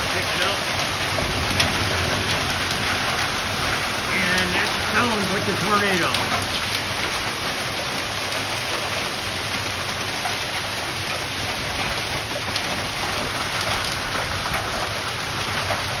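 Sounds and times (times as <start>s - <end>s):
heavy rain pouring: 0.0s - 16.0s
raindrop ticks: 0.0s - 16.0s.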